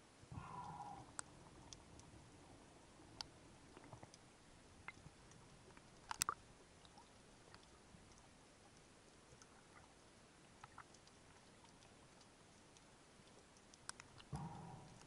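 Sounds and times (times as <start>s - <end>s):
quiet hiss: 0.0s - 15.0s
underwater clicks: 0.4s - 2.1s, 3.1s - 9.9s, 10.5s - 15.0s.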